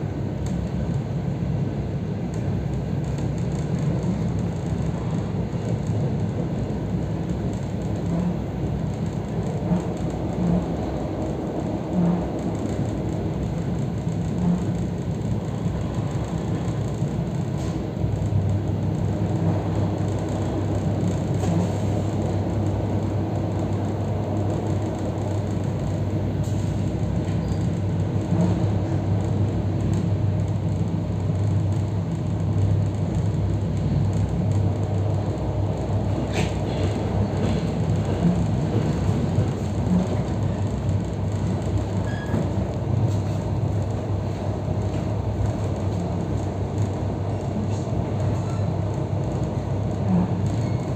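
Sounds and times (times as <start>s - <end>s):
constant low hum: 0.0s - 50.9s
train wheels rumbling on track: 0.0s - 50.9s.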